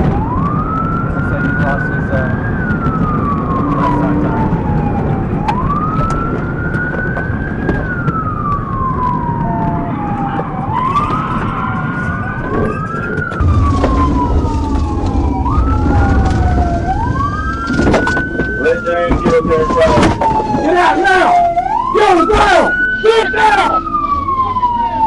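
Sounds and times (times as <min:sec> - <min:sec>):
engine and road noise: 0:00.0 - 0:25.0
police siren wailing: 0:00.0 - 0:25.0
second siren: 0:00.0 - 0:25.0.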